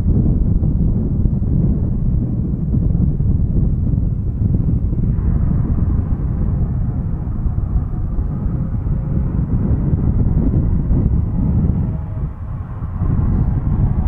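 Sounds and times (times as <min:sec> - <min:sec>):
turboprop engine rumbling: 0:00.0 - 0:14.0.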